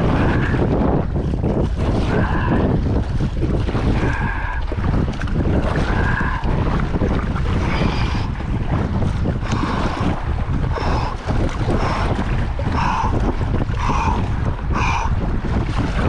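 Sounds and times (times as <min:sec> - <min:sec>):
water lapping: 0:00.0 - 0:16.0
wind buffeting microphone: 0:00.0 - 0:16.0.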